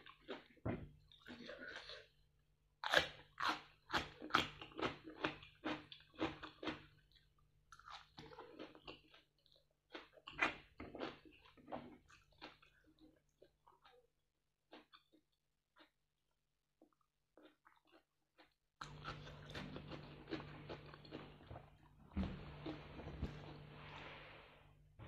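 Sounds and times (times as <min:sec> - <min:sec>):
person chewing crunchy food: 0:00.0 - 0:02.2, 0:02.8 - 0:16.1, 0:16.8 - 0:24.2.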